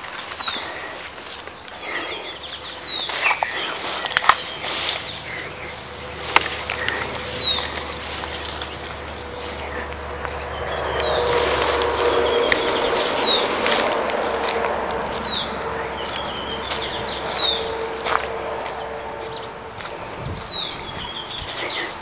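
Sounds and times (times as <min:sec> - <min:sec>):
insect buzz: 0:00.0 - 0:22.0
footsteps snapping: 0:02.8 - 0:22.0.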